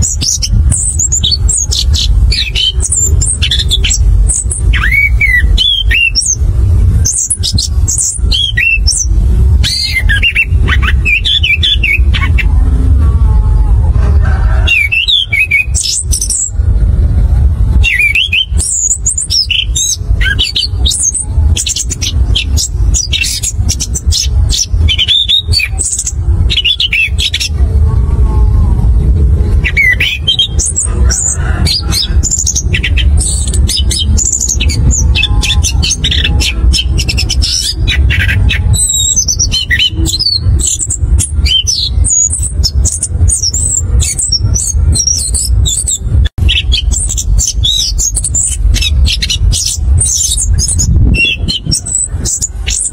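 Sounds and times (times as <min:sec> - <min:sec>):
low background rumble: 0:00.0 - 0:52.9
thrush singing: 0:00.0 - 0:52.9.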